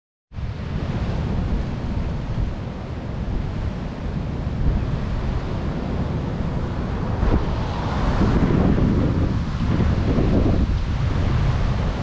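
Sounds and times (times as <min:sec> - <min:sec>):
gusty wind buffeting microphone: 0:00.3 - 0:12.0
heavy surf breaking: 0:00.4 - 0:12.0.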